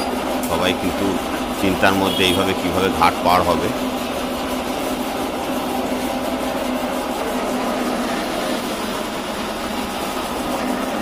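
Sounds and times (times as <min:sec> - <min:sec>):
ferry engine humming: 0:00.0 - 0:11.0.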